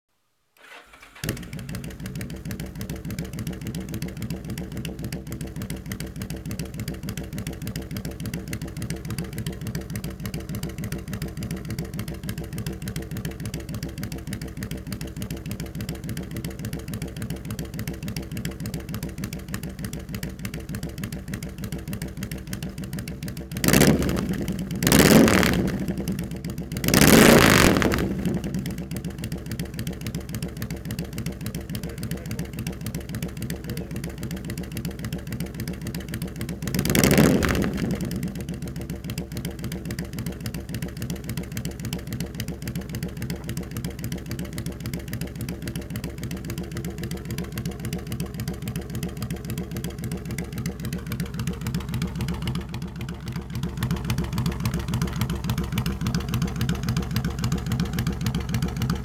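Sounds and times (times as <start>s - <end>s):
motorcycle engine idling and revving: 0.6s - 59.0s.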